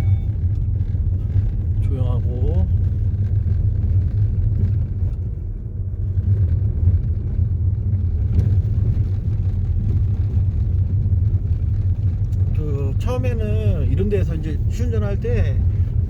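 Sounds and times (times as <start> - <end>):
tyre and road rumble: 0.0 - 16.0.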